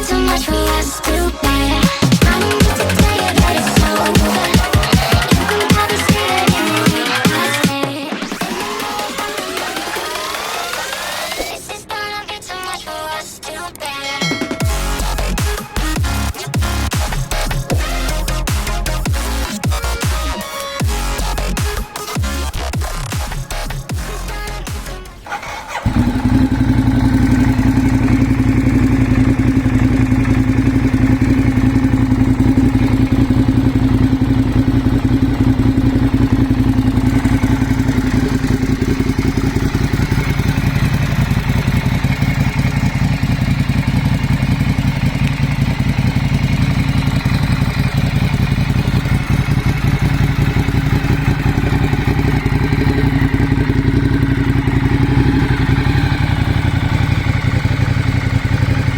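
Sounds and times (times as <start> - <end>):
motorcycle engine idling: 0.0 - 7.9, 14.3 - 58.9.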